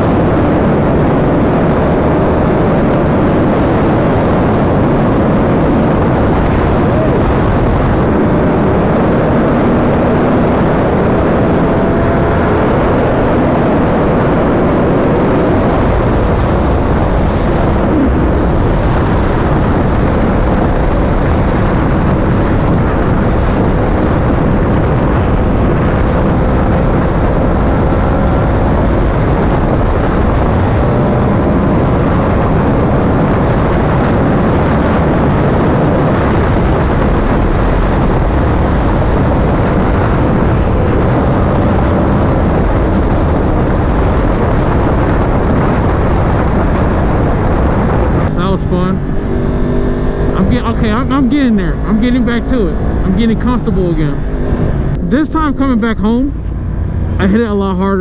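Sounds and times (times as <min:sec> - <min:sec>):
motorcycle engine: 0:00.0 - 0:58.0
wind and road noise: 0:00.0 - 0:58.0.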